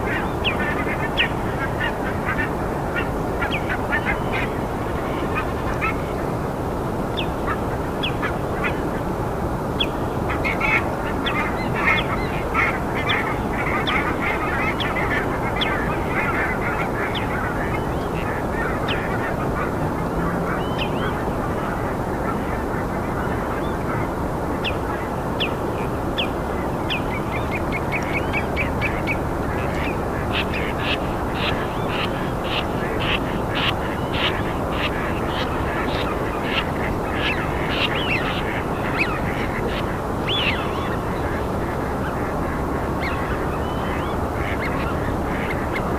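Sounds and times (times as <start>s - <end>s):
birds calling: 0.0s - 6.4s, 9.7s - 45.9s
rushing background noise: 0.0s - 45.9s.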